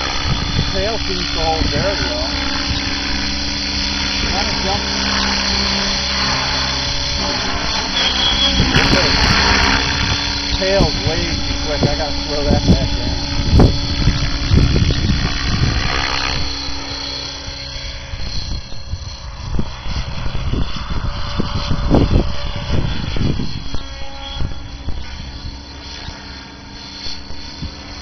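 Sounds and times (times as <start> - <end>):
gusty low rumbling: 0.0 - 27.9
rc helicopter rotor whir: 0.0 - 28.0.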